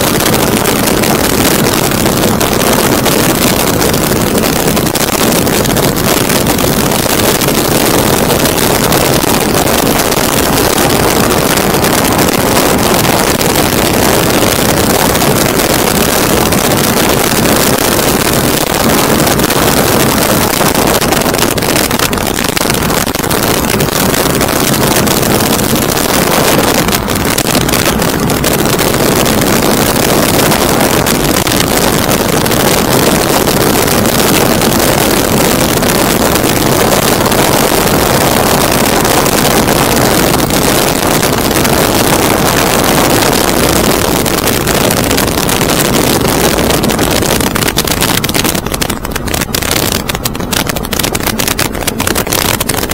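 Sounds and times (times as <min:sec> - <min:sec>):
aircraft drone: 0:00.0 - 0:52.9
wind on microphone: 0:00.0 - 0:52.9.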